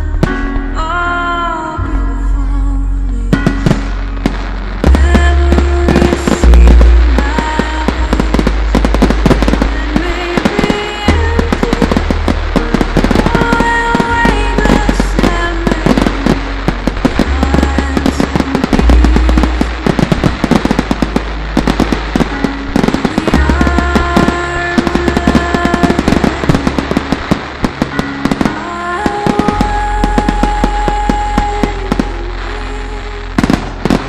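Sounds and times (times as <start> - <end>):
loud music with deep bass: 0.0 - 34.0
fireworks bangs and crackles: 3.3 - 34.0.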